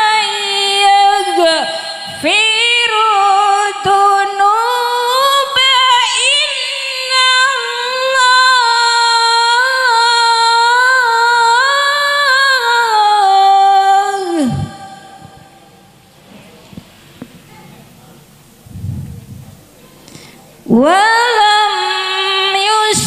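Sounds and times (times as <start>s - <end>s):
woman reciting in melodic style: 0.0s - 16.0s, 19.8s - 23.0s.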